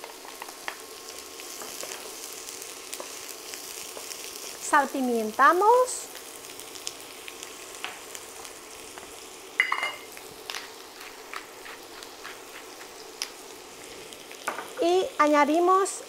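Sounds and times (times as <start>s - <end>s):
small crackles: 0.0s - 9.4s, 10.0s - 15.2s
onion and garlic sizzling in oil: 0.0s - 16.0s.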